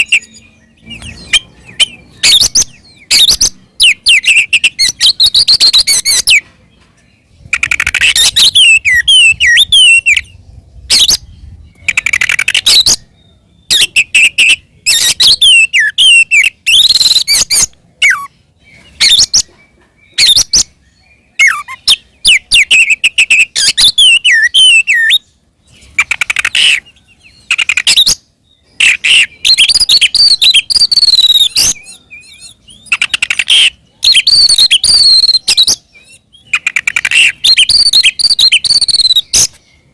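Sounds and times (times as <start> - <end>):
bird singing whistles and trills: 0.0 - 6.5, 7.4 - 39.9.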